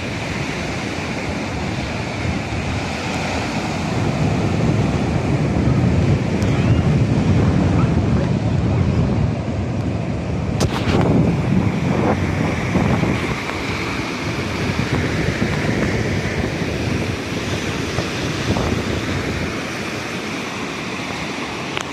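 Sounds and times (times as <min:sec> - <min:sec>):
waves washing ashore: 0:00.0 - 0:21.9
wind buffeting microphone: 0:00.0 - 0:21.9.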